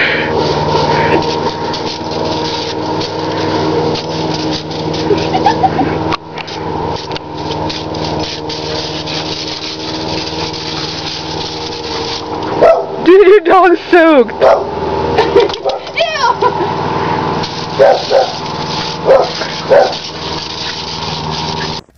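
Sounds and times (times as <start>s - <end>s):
garden hose spraying water: 0.0s - 21.9s
steady engine hum: 0.0s - 21.9s.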